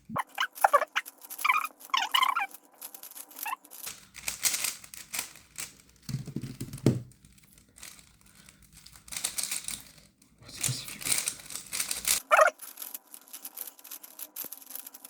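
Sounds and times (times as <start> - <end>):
puzzle cube clicking and rattling: 0.2 - 15.0.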